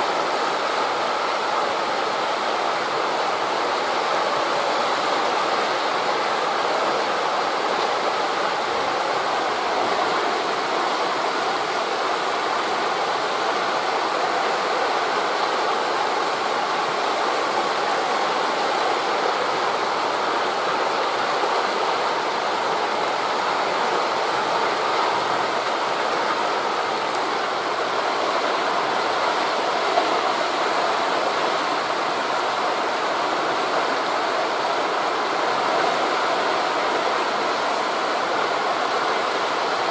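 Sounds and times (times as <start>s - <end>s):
wind in trees: 0.0s - 39.9s.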